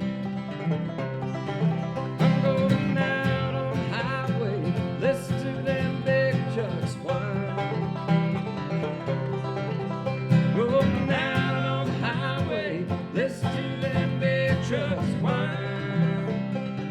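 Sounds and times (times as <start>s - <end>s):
bluegrass on acoustic strings: 0.0s - 16.9s.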